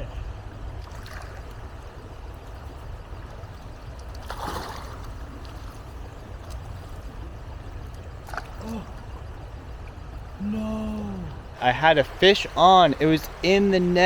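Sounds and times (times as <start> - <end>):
wind rumble on microphone: 0.0 - 11.6
creek water running: 0.0 - 14.0.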